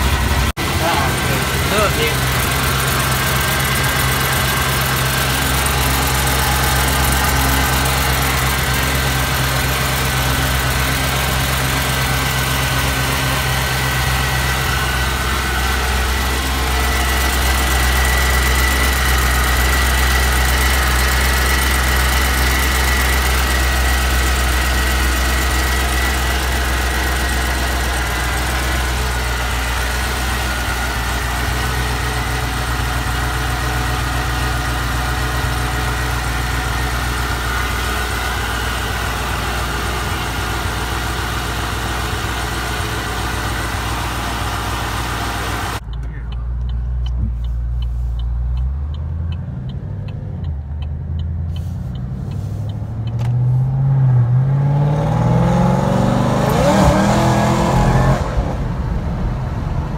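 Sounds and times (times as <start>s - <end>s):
supercharger whine: 0.0s - 47.7s, 48.3s - 59.9s
car engine idling: 0.0s - 59.9s.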